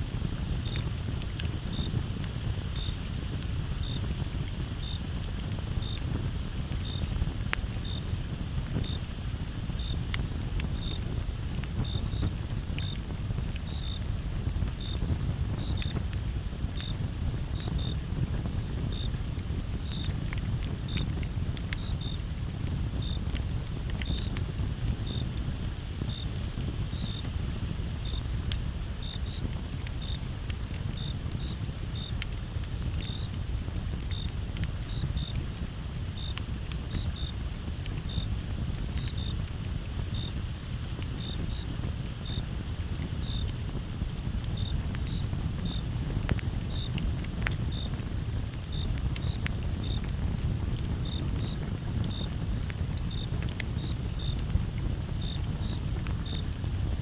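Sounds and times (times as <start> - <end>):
campfire crackling and popping: 0.0 - 57.0
crickets chirping: 0.1 - 57.0.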